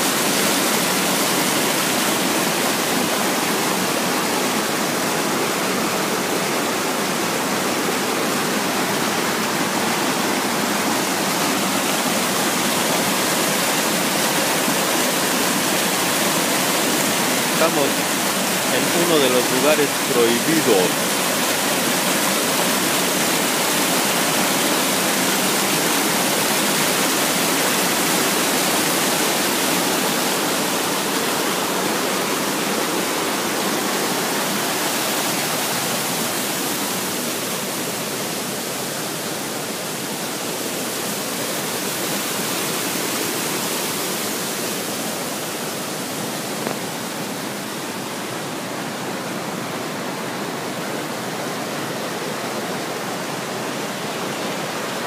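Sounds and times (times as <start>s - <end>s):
waterfall splashing: 0.0s - 55.0s.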